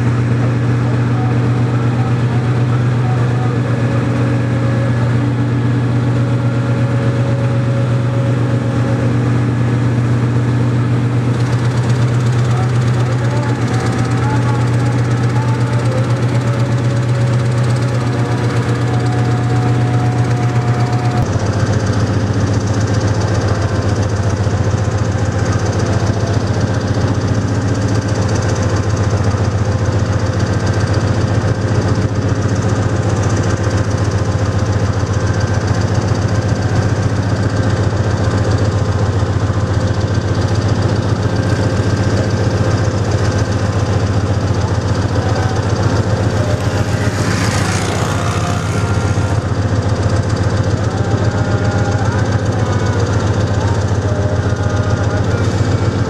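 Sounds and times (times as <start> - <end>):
locomotive engine idling: 0.0 - 56.0.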